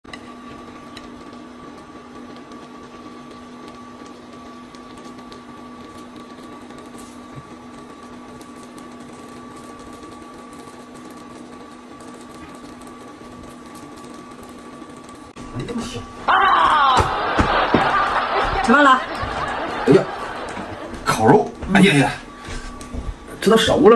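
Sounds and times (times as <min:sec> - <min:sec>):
electrical hum: 0:00.1 - 0:23.9.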